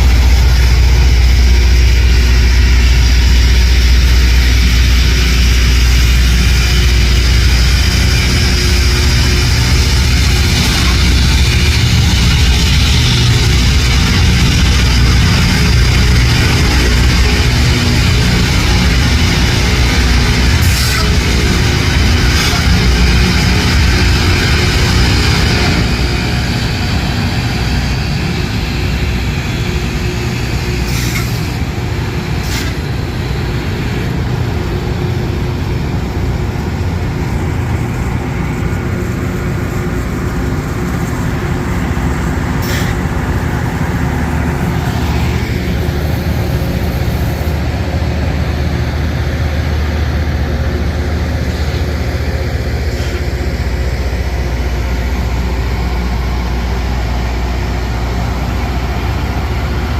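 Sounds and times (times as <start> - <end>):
heavy diesel rumble: 0.0 - 59.9.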